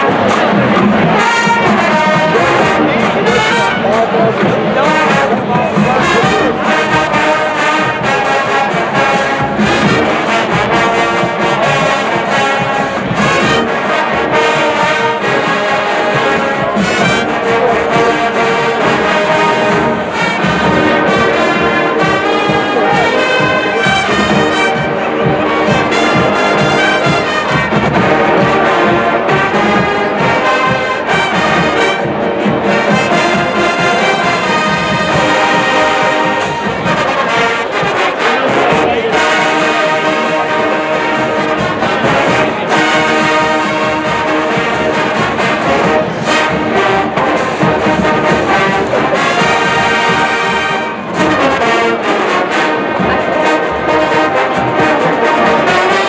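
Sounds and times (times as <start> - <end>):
brass section playing: 0.0 - 56.0
drumline drums and cymbals: 0.0 - 56.0.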